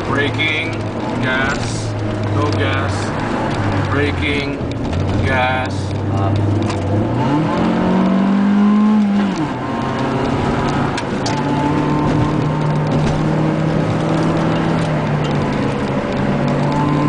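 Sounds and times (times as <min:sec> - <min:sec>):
car engine from inside cabin: 0:00.0 - 0:17.0.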